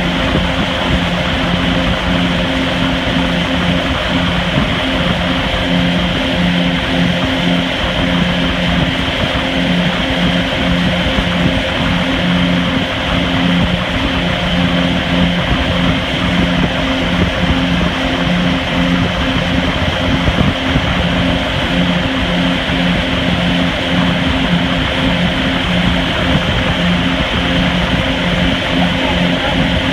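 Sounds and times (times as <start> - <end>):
boat engine humming: 0.0 - 29.9
rush of wake and wind: 0.0 - 29.9.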